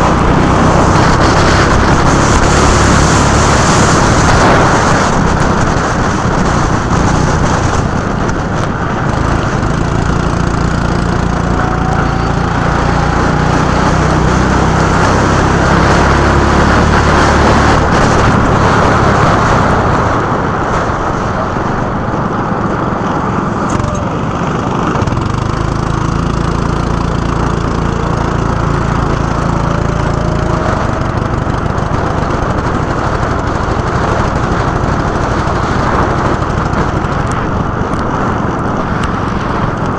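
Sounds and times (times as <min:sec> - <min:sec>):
go-kart engine running: 0:00.0 - 0:39.9
wind and tyre noise: 0:00.0 - 0:39.9.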